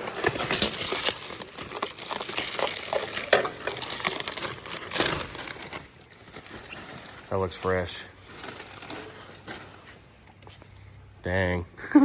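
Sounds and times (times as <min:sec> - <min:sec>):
packaging wrap crinkling and tearing: 0:00.0 - 0:10.4.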